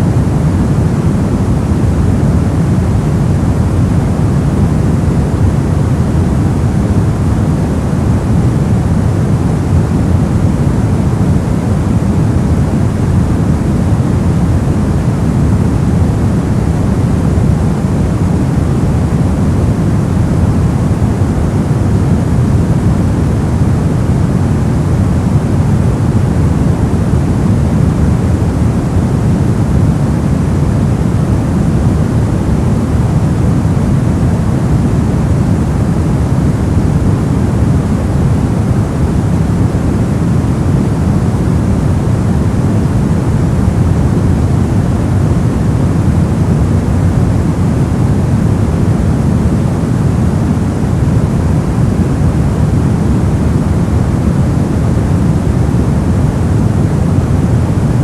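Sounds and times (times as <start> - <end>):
deep white noise: 0.0 - 58.0.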